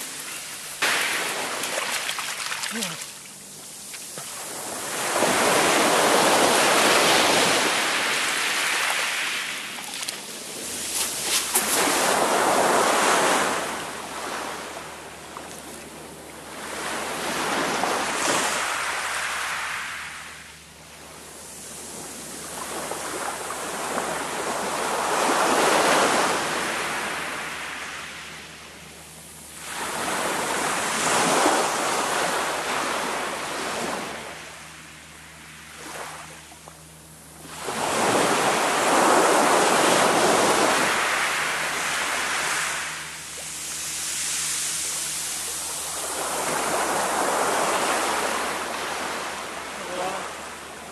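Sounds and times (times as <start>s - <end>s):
waves washing up a shingle beach: 0.0s - 15.4s, 16.4s - 20.4s, 21.2s - 28.2s, 29.6s - 34.6s, 37.4s - 50.9s.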